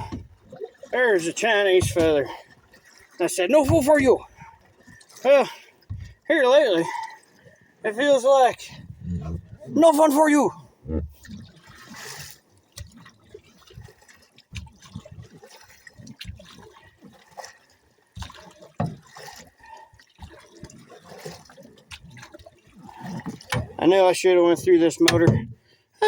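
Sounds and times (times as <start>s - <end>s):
paddle splashing in water: 0.0s - 25.9s.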